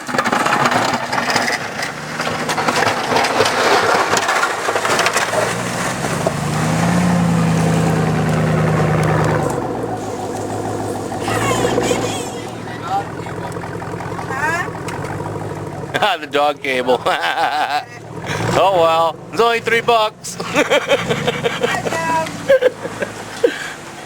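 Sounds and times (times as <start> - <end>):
plow blade scraping snow: 0.0 - 24.0
truck engine running: 0.0 - 24.0.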